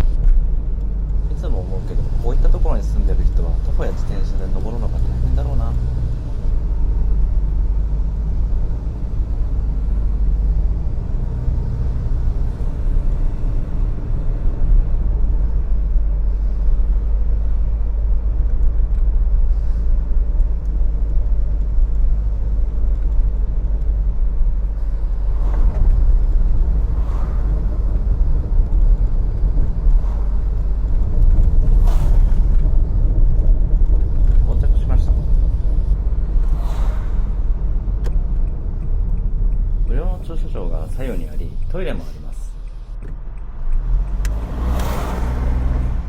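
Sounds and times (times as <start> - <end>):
car engine and tyres rumbling: 0.0 - 46.0.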